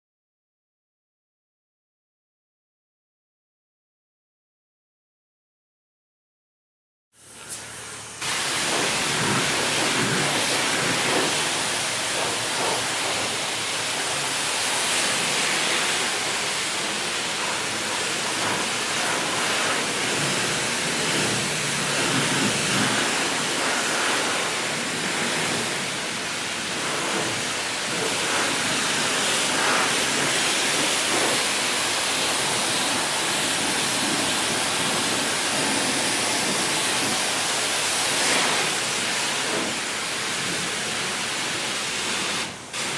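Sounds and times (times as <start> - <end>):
high-pressure water spray on car: 7.2 - 42.9.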